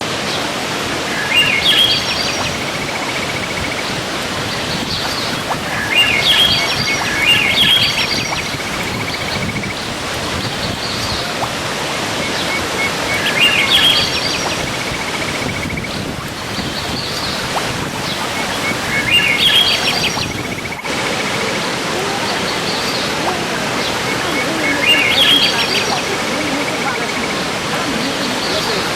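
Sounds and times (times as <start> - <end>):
waterfall rushing: 0.0 - 28.9
songbird chirps and trill: 1.1 - 11.6, 12.2 - 21.0, 22.3 - 27.3.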